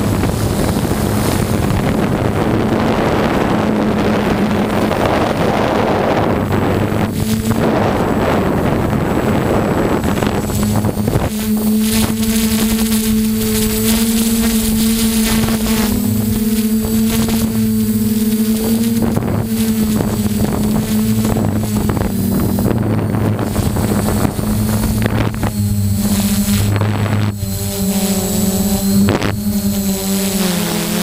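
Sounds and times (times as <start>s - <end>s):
snowmobile engine running: 0.0s - 31.0s
wind noise on microphone: 0.0s - 31.0s.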